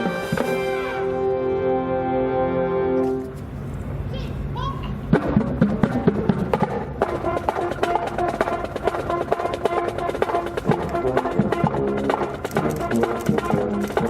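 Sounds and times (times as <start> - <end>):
brass band playing: 0.0 - 3.4, 5.1 - 14.0.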